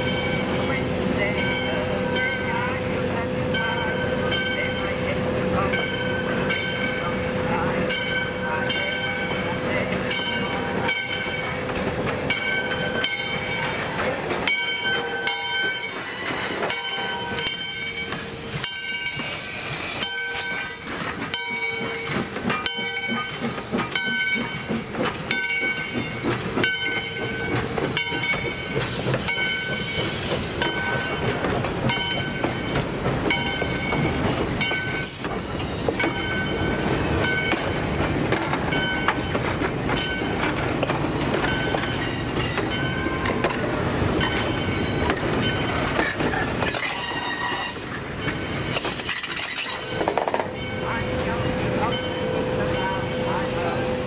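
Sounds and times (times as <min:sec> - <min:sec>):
locomotive bell ringing: 0:00.0 - 0:54.0
train wheels clacking on rails: 0:00.0 - 0:54.0.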